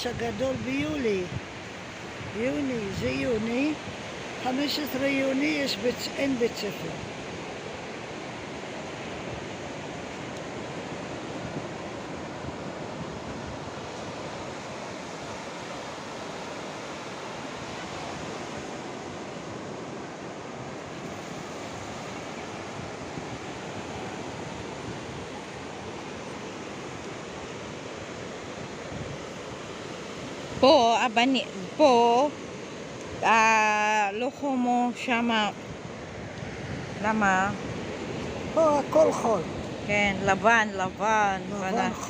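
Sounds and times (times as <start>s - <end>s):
surf washing onto beach: 0.0s - 42.0s
wind: 0.0s - 42.0s.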